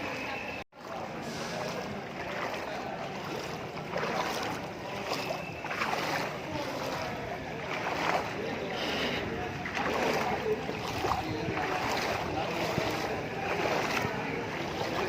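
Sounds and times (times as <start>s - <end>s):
water rushing against vehicle: 0.0s - 15.0s.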